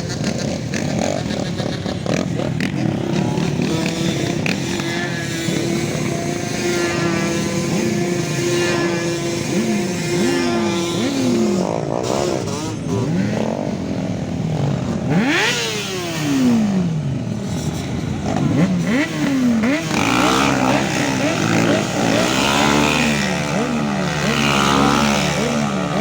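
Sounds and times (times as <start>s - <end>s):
engine drone: 0.0s - 26.0s
two-stroke engine revving: 0.0s - 26.0s.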